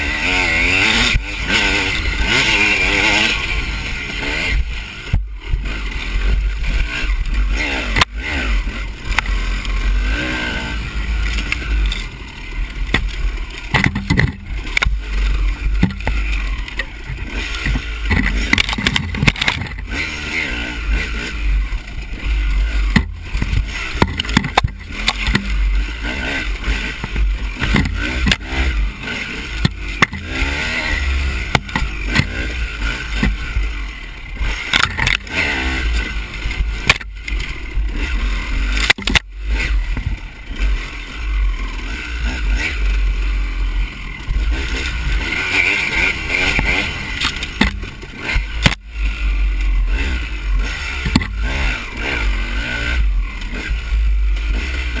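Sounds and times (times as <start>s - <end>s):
dirt bike engine revving: 0.0s - 55.0s
bike knocks and rattles: 0.6s - 43.1s, 44.1s - 55.0s.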